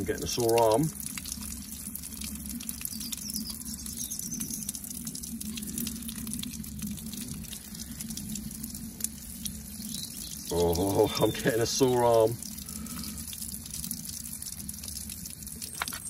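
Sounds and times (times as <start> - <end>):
water showering onto leaves: 0.0 - 16.0.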